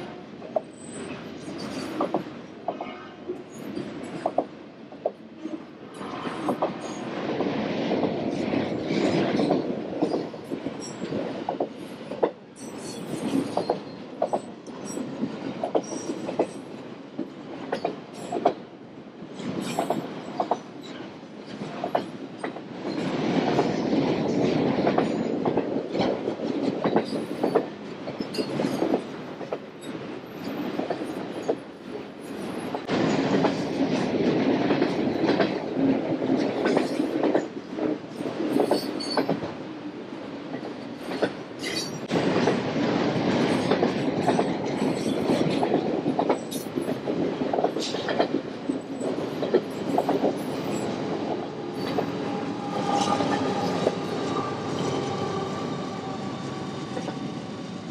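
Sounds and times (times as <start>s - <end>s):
freight trains rumbling: 0.0s - 57.9s.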